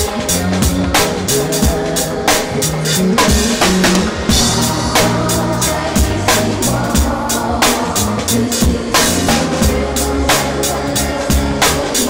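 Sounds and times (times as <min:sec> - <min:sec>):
live band playing groove: 0:00.0 - 0:12.0.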